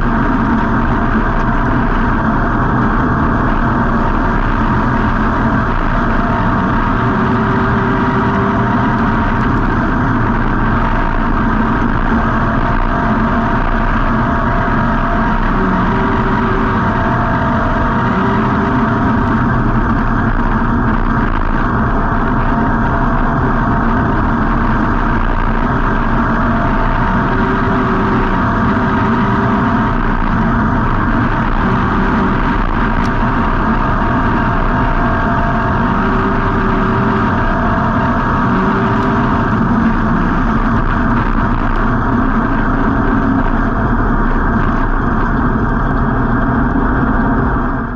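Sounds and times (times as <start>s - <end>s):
race car engine running steadily: 0.0s - 47.9s.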